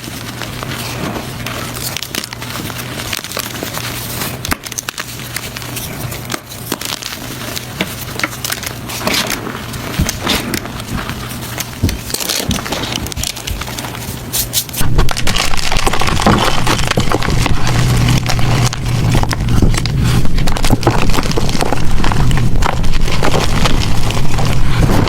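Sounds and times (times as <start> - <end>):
chalk crunching by hand: 0.0 - 25.0.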